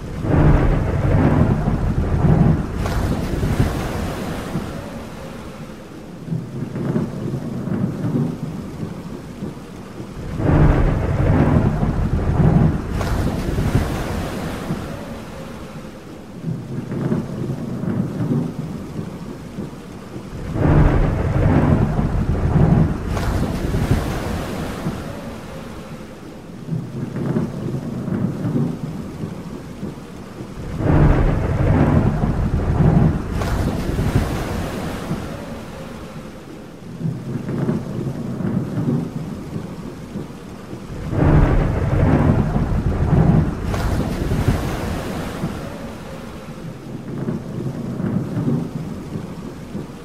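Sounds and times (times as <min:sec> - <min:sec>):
rolling thunder: 0:00.0 - 0:50.0
steady rain: 0:00.0 - 0:50.0.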